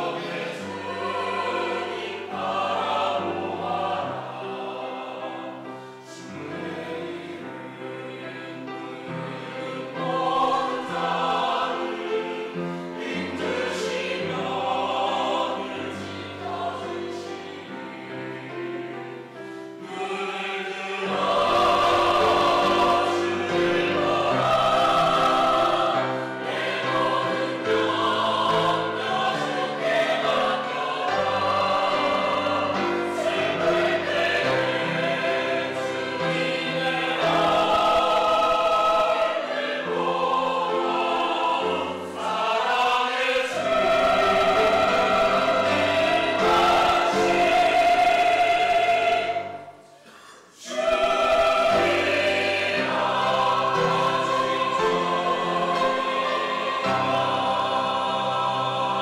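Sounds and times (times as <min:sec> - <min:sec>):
mixed choir singing: 0:00.0 - 0:59.0.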